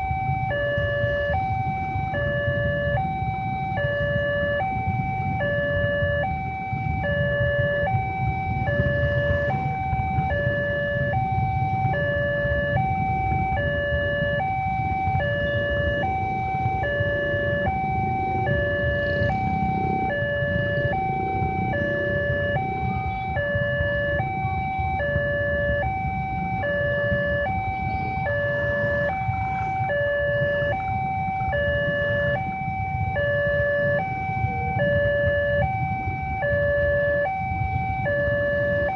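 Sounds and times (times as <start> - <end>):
motorcycles idling: 0.0 - 38.9
two-tone level crossing alarm: 0.0 - 38.9.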